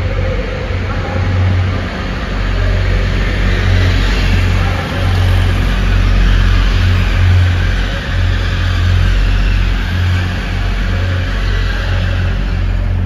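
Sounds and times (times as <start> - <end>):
diesel train rumbling: 0.0 - 13.0.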